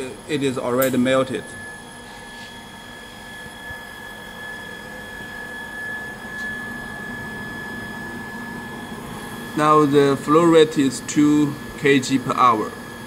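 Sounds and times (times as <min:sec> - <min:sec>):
machine hum: 0:00.0 - 0:13.0
pump motor whine: 0:00.0 - 0:13.0.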